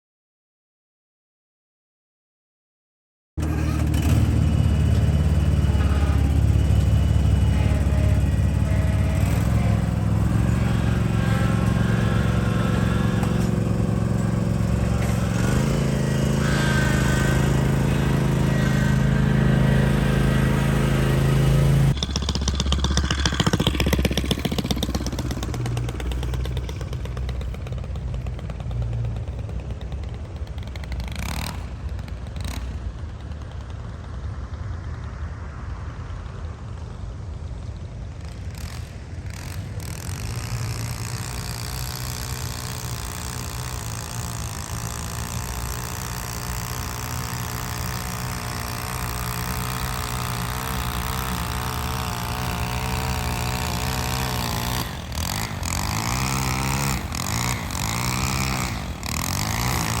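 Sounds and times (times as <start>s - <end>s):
lawn equipment engine running: 3.4s - 60.0s.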